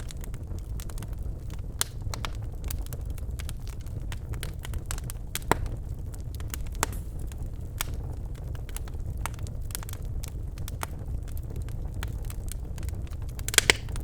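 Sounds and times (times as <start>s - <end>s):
logs crackling and popping: 0.0s - 14.0s
low rumble of flames: 0.0s - 14.0s.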